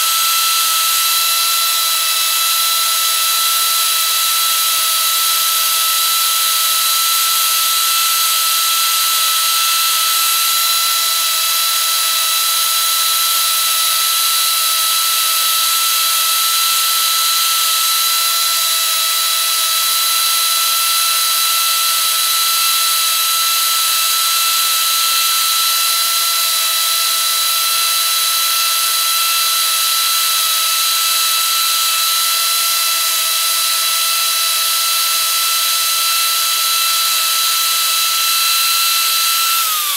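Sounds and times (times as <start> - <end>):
power carver motor whine: 0.0 - 39.9.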